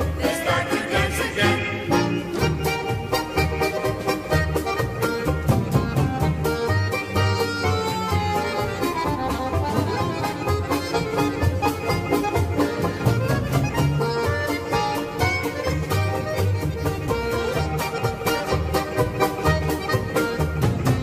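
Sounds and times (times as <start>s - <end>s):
polka music on accordion: 0.0s - 21.0s.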